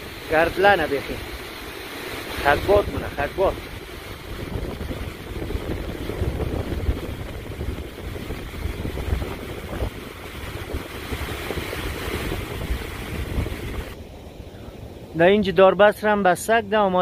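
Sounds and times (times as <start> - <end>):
water jetting against rocks: 0.0 - 14.0
wind rumble on microphone: 0.0 - 15.8.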